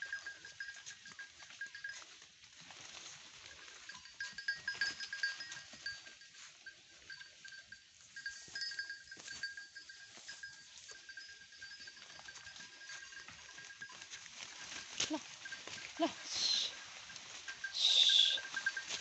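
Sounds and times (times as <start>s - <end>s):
small bell ringing: 0.0s - 2.2s, 3.7s - 19.0s
rustles in undergrowth: 0.0s - 19.0s.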